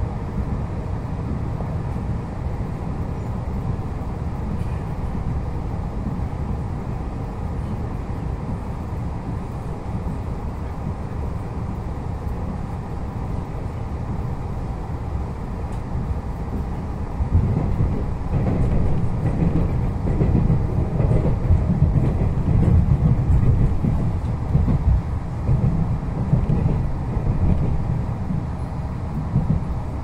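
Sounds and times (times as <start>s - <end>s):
train rumble inside passenger car: 0.0s - 30.0s.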